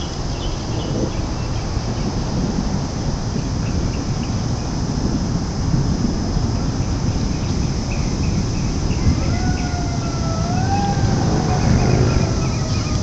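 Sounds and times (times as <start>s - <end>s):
crickets chirping faintly: 0.0s - 13.0s
low rumble of wind: 0.0s - 13.0s.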